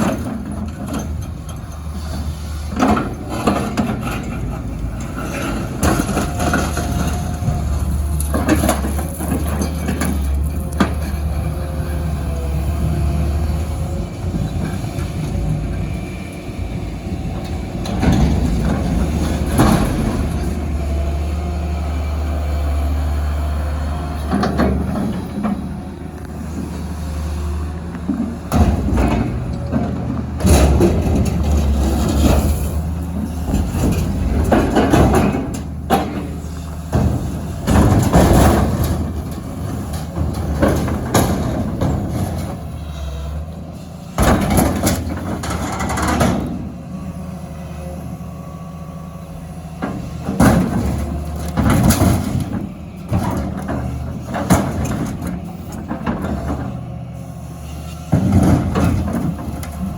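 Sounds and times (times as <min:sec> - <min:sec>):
metal crunching and banging: 0:00.0 - 0:16.0, 0:17.0 - 0:21.6, 0:28.0 - 0:43.5, 0:44.1 - 0:47.0, 0:49.6 - 0:57.3, 0:58.0 - 0:59.9
diesel engine running: 0:00.0 - 0:59.9.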